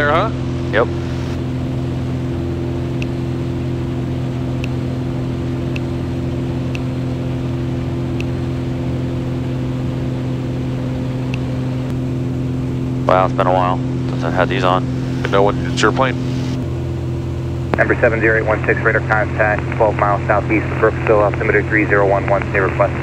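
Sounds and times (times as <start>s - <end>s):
propeller plane engine hum: 0.0s - 23.0s.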